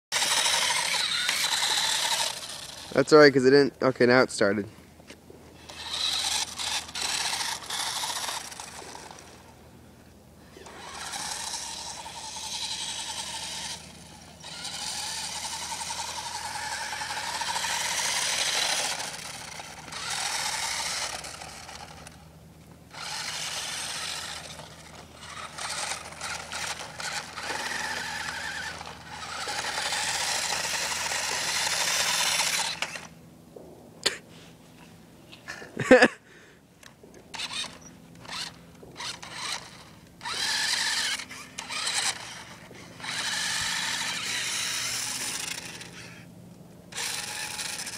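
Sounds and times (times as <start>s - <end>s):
toy car motor whining: 0.1s - 3.3s, 5.6s - 9.5s, 10.5s - 22.2s, 22.9s - 33.2s, 37.3s - 46.3s, 46.9s - 47.9s.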